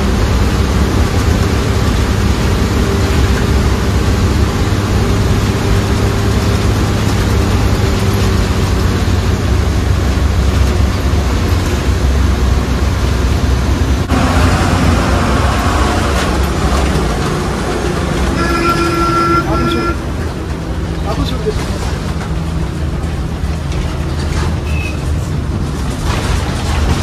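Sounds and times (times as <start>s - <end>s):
bus engine drone: 0.0s - 27.0s
road rumble: 0.0s - 27.0s.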